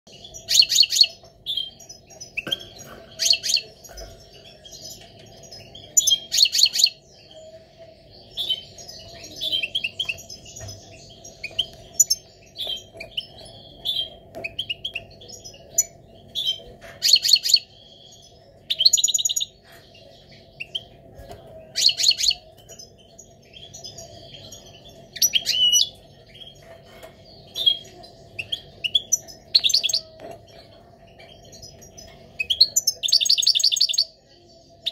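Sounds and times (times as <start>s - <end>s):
goldfinch singing: 0.1s - 34.9s.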